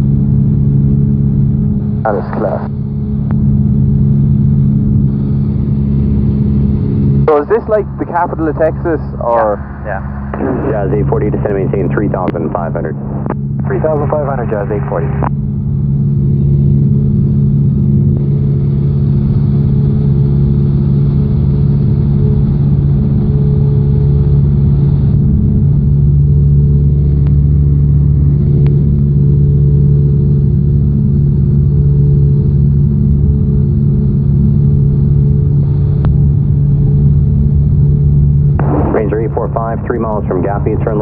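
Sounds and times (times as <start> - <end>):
aircraft engine droning: 0.0 - 41.0.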